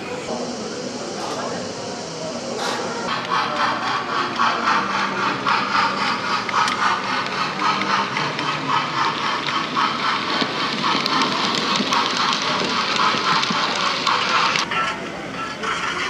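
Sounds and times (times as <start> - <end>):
model train rhythmic beat: 0.2 - 16.0.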